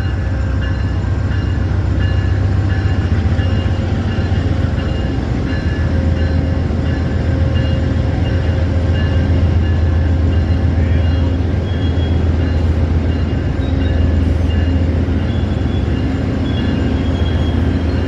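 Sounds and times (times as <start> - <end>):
crossing bell dinging: 0.0 - 18.0
train wheels rumbling on rails: 0.0 - 18.0.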